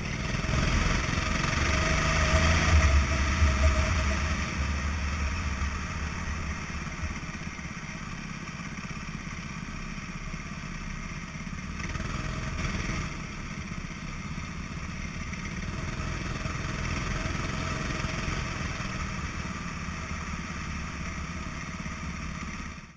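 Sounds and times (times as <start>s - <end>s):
track rumble: 0.0s - 22.2s
go-kart engine running: 0.0s - 22.9s
wind: 0.0s - 22.9s.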